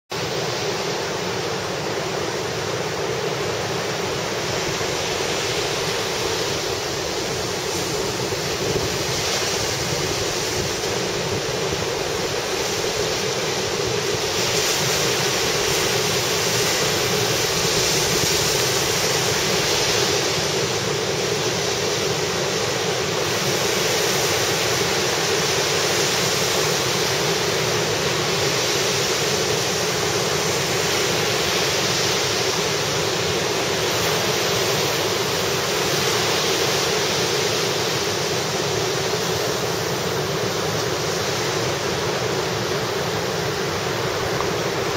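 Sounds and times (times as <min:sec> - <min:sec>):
heavy surf breaking on beach: 0:00.1 - 0:44.9.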